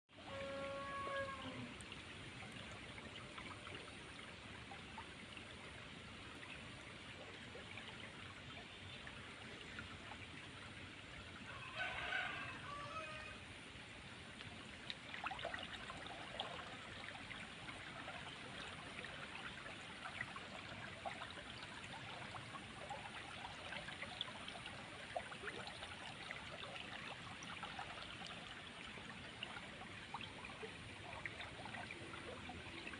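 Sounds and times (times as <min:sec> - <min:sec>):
running trickling water: 0:00.1 - 0:32.9.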